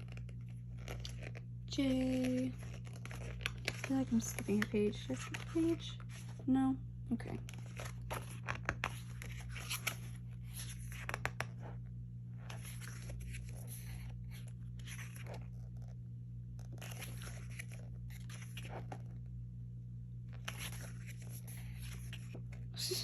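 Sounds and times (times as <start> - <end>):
book pages turning: 0.0 - 6.5, 7.3 - 19.4, 20.2 - 22.7
low electrical hum: 0.0 - 23.0.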